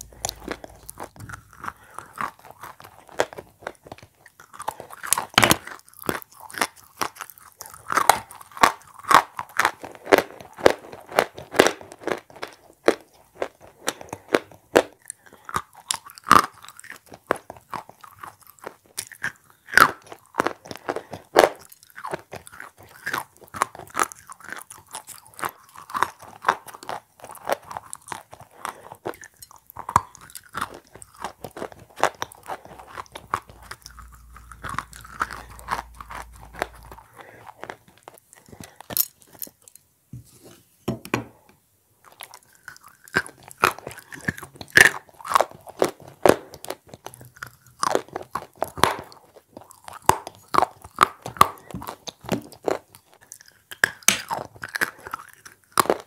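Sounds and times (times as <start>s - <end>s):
chalk crunching while chewed: 0.0s - 39.8s, 42.0s - 56.0s.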